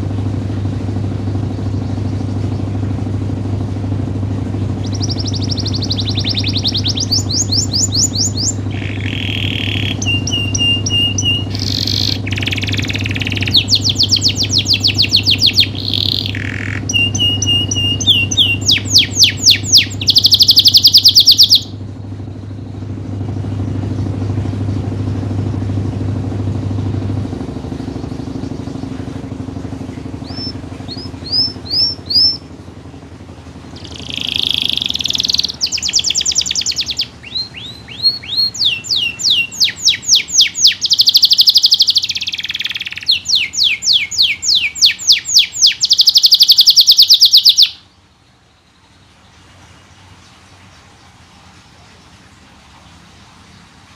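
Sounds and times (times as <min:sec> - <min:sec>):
canary singing trills: 0:01.0 - 0:48.0.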